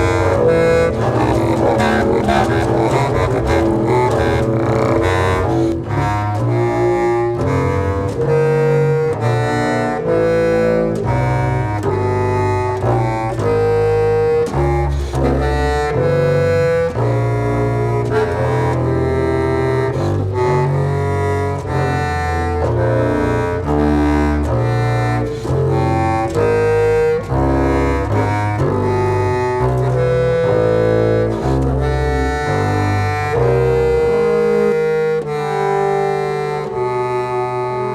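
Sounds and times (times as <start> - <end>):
clarinet: 0.0 - 37.9
double bass: 0.0 - 37.9.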